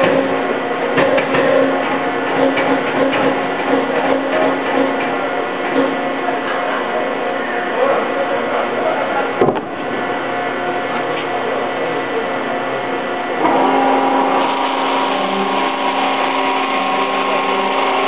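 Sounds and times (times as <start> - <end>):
roller machine running: 0.0 - 18.0.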